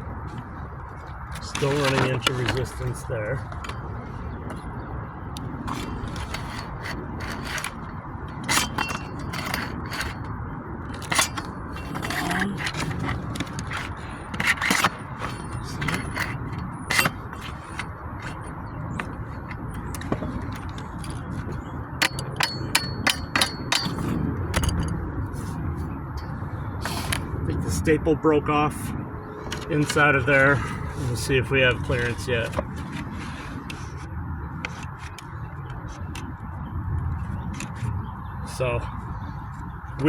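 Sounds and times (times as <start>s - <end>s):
shingle ripper scraping and clicking: 0.3s - 27.5s, 29.4s - 36.4s, 37.3s - 37.9s.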